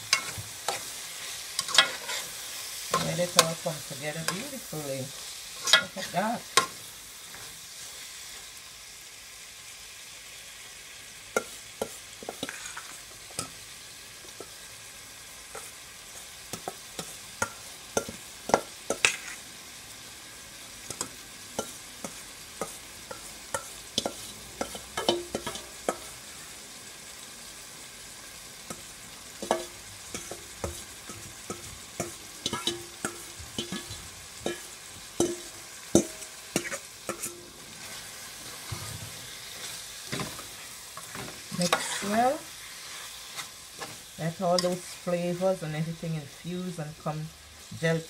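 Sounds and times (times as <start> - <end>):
food sizzling in oil: 0.0 - 48.0.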